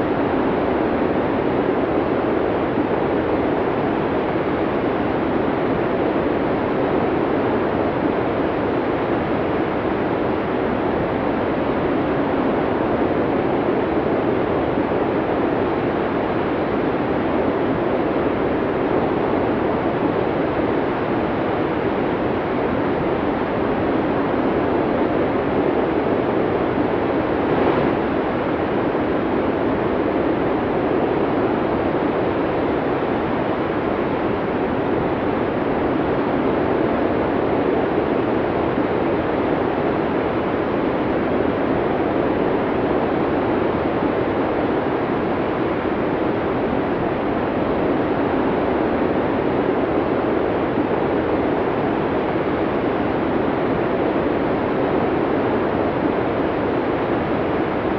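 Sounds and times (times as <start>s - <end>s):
snowstorm wind blowing: 0.0s - 57.9s.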